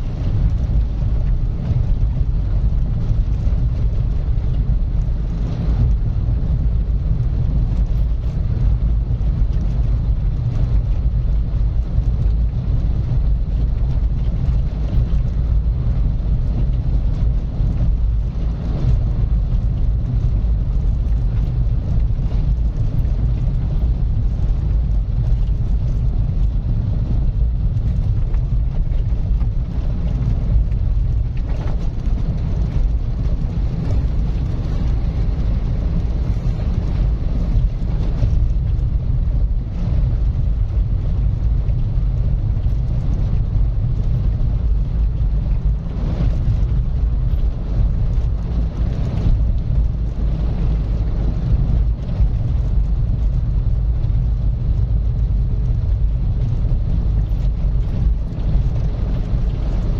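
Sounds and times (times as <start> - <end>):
car engine rumble: 0.0 - 59.9
tyre noise on road: 0.0 - 59.9.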